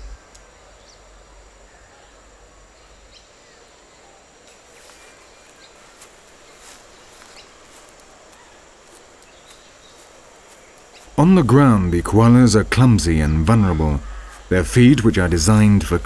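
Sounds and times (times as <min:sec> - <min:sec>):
crackles of dry leaf litter: 0:00.0 - 0:16.0
thin high whine: 0:00.0 - 0:16.0.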